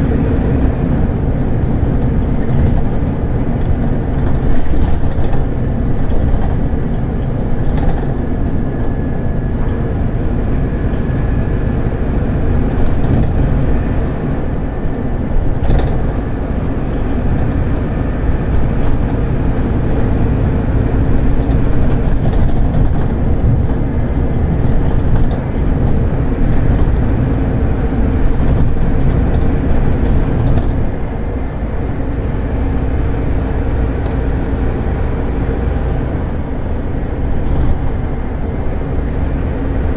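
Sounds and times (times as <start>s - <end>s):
bus diesel engine under load: 0.0s - 39.9s
road and body noise: 0.0s - 39.9s.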